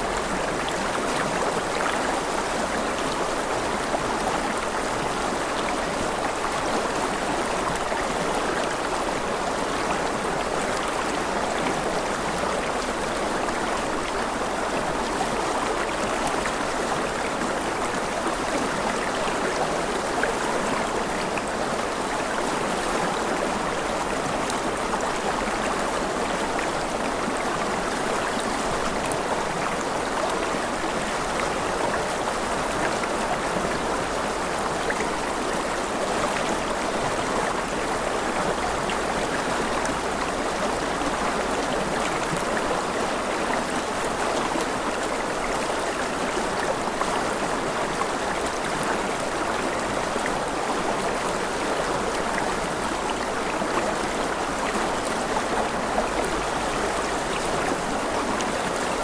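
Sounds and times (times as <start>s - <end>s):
flowing stream: 0.0s - 59.0s.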